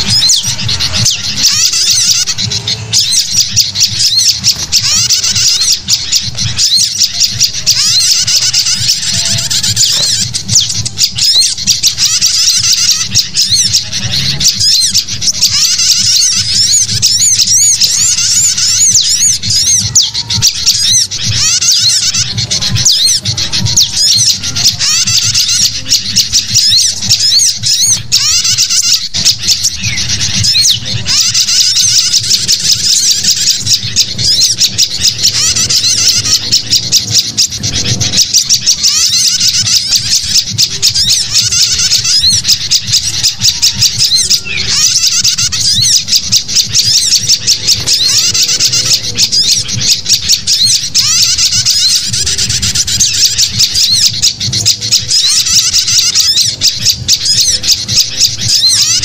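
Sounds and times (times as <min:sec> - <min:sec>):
songbirds chattering and chirping: 0:00.0 - 0:59.0.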